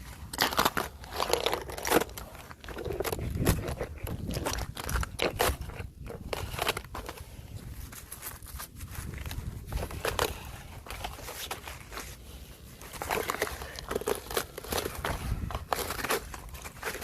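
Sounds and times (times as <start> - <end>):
ice crunching underfoot: 0.0 - 17.0
ice scraping: 0.0 - 17.0.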